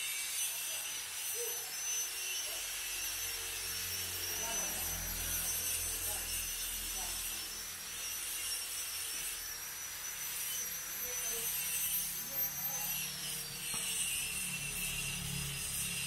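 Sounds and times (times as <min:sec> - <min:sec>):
power tool motor whine: 0:00.0 - 0:16.0.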